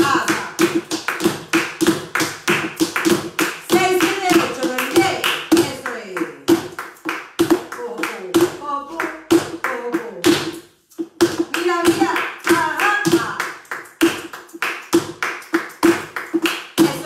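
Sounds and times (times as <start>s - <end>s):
flamenco shoes tapping wooden floor: 0.0s - 17.0s
handclaps keeping time: 0.0s - 17.0s.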